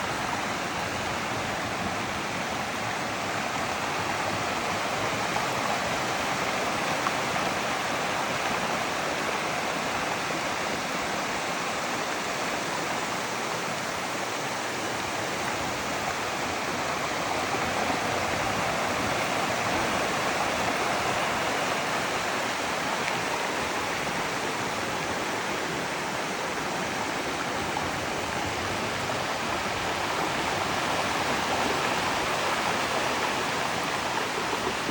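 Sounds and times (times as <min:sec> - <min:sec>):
water rushing through channel: 0:00.0 - 0:34.9.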